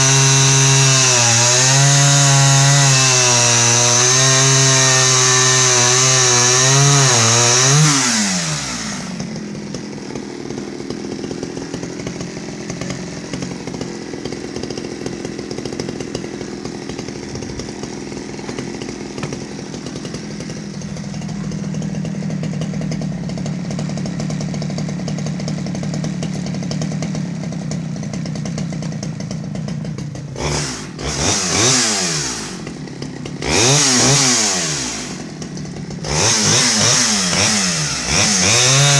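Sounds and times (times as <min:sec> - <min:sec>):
chainsaw cutting and idling: 0:00.0 - 0:38.9.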